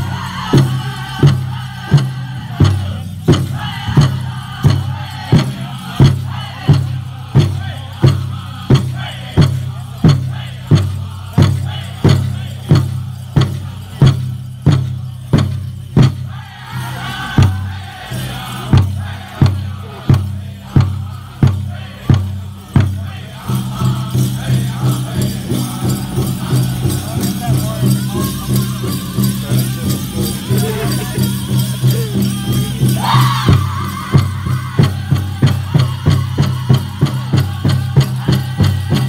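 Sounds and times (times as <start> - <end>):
group singing: 0.0 - 15.4, 16.0 - 39.0
large drum beating: 0.0 - 39.0.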